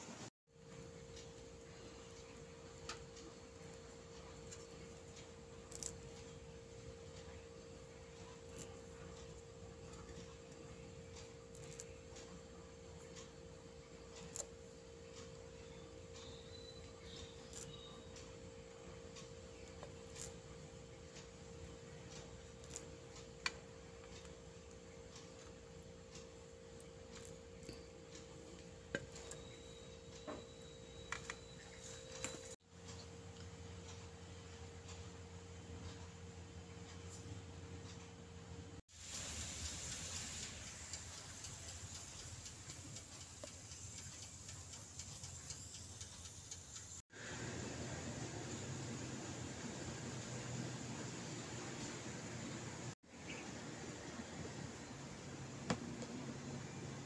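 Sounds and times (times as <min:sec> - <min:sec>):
steady hum: 0:00.0 - 0:57.0
faint irregular ticking: 0:00.5 - 0:47.4.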